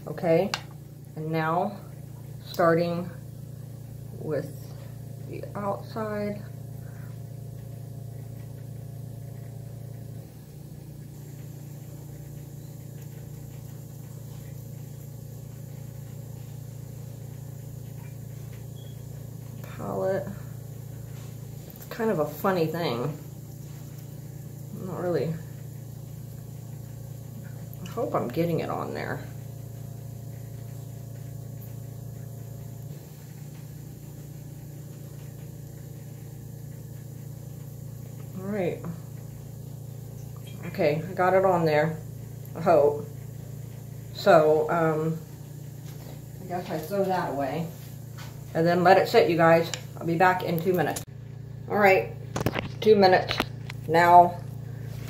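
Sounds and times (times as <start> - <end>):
motor humming: 0.0 - 55.0.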